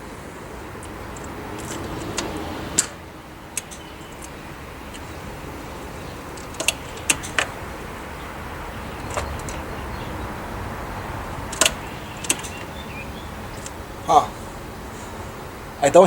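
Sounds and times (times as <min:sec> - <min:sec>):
car key and ignition clicks: 0:00.8 - 0:14.1.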